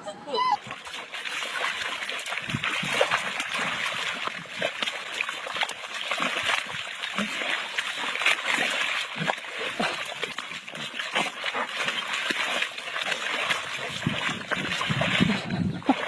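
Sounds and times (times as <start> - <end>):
water splashing and sloshing: 0.4 - 16.0.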